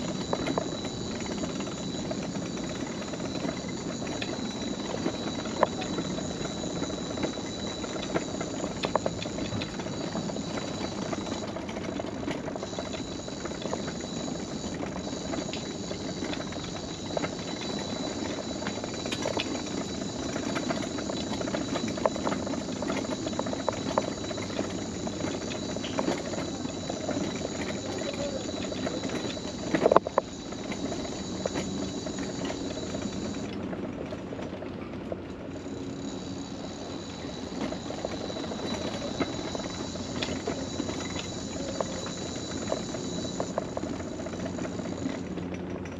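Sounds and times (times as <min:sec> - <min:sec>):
clicks and knocks on boardwalk: 0:00.0 - 0:45.9
scooter motor hum with whine: 0:00.0 - 0:45.9.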